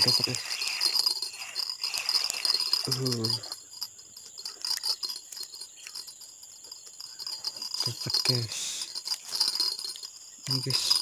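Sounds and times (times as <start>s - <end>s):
fishing reel clicking: 0.0s - 6.2s, 6.8s - 11.0s
insects droning: 0.0s - 11.0s.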